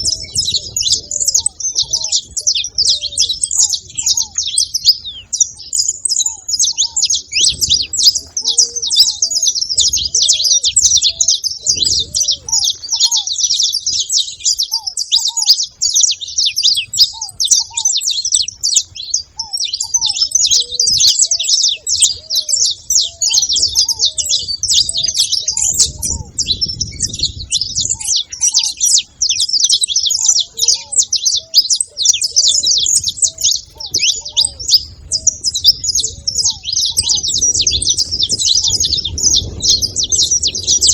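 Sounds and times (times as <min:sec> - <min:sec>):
finch singing high chirps: 0:00.0 - 0:40.9.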